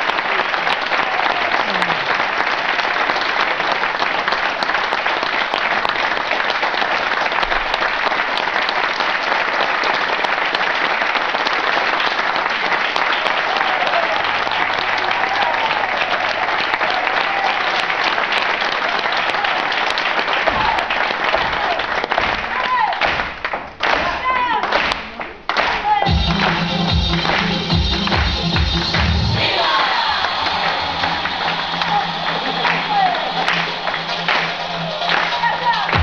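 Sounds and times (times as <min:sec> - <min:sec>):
audience applauding: 0:00.0 - 0:36.0.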